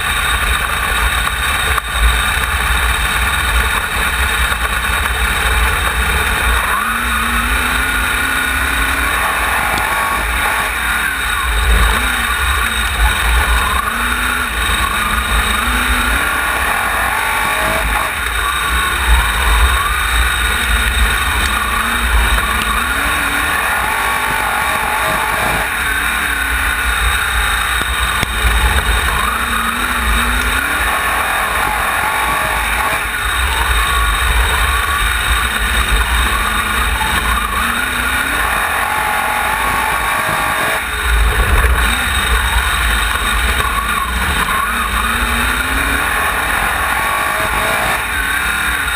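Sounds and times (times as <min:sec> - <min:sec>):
racing car engine revving: 0:00.0 - 0:48.9
wind and vibration rumble: 0:00.0 - 0:48.9.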